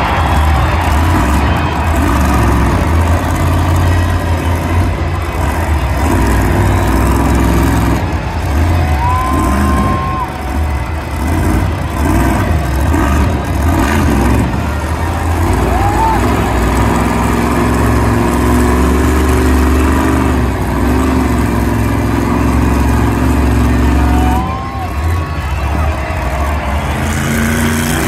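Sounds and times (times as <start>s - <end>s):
monster truck engine running: 0.0s - 28.0s.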